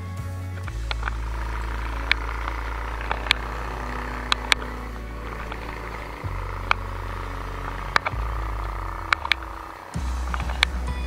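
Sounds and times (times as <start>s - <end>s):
bike tyres rolling: 0.0s - 11.0s
wind rumble: 0.5s - 11.0s.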